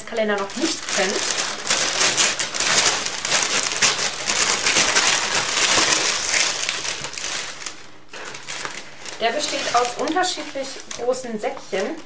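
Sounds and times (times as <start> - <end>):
packaging crinkling and rustling: 0.1 - 12.0.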